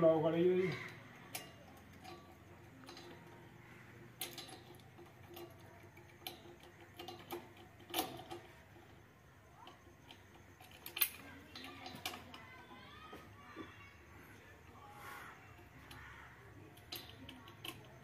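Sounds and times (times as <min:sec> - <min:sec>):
faint metallic clicks and taps: 0:00.7 - 0:18.0.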